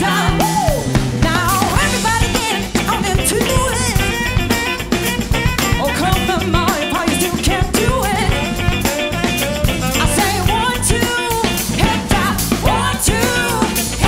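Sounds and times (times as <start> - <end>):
women singing: 0.0 - 4.0, 5.8 - 9.0, 9.8 - 14.0
bass: 0.0 - 14.0
drum kit beat: 0.0 - 14.0
tenor saxophone: 1.7 - 14.0.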